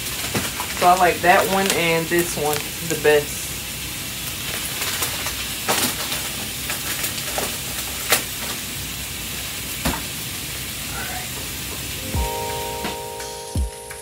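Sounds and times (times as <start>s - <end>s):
fish and vegetables sizzling: 0.0s - 13.5s.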